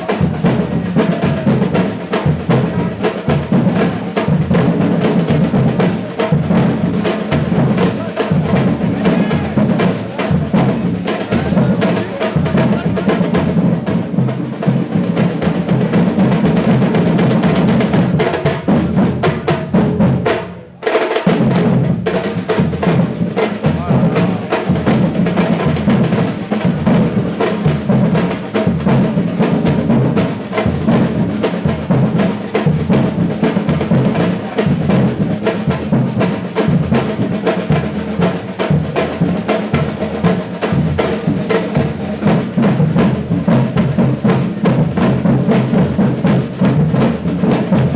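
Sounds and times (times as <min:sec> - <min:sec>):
percussion ensemble drum groove: 0:00.0 - 0:47.9.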